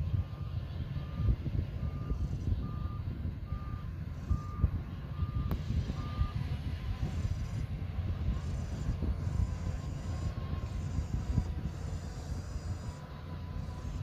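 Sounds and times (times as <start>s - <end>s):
bulldozer engine and tracks: 0.0s - 14.0s
reversing alarm beeping: 0.2s - 7.6s, 8.2s - 14.0s.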